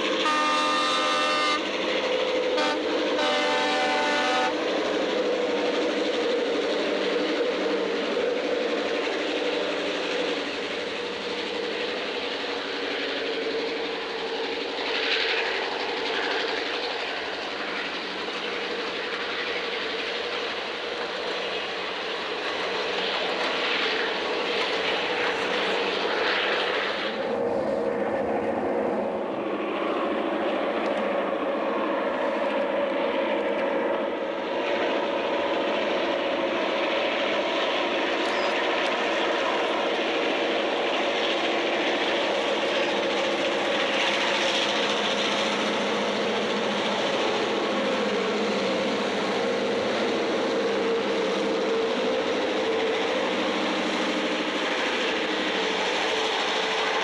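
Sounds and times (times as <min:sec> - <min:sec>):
diesel train engine drone: 0:00.0 - 0:57.0
rail noise: 0:00.0 - 0:57.0.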